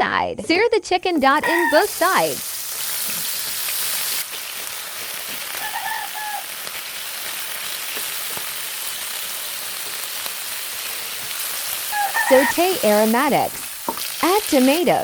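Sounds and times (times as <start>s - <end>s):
chicken sizzling in hot oil: 1.1s - 15.0s.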